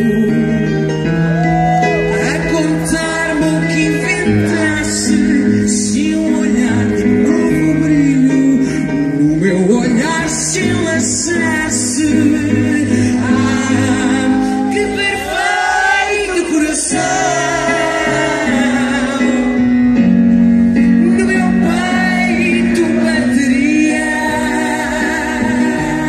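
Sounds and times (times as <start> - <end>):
person singing wordless vocals: 0.0 - 1.0, 2.0 - 20.0, 20.8 - 26.0
keyboard chords: 0.0 - 26.0.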